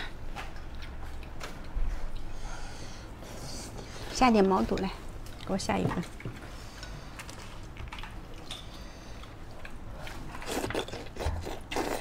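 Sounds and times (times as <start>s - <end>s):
soft chewing: 0.0s - 12.0s.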